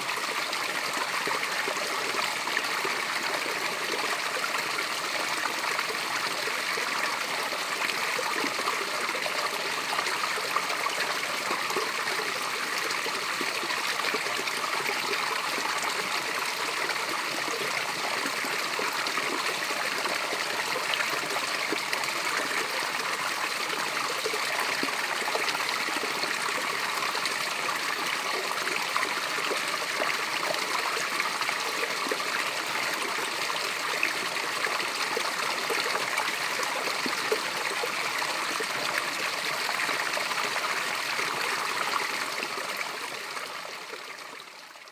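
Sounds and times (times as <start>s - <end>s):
water pouring down waterfall: 0.0s - 44.8s.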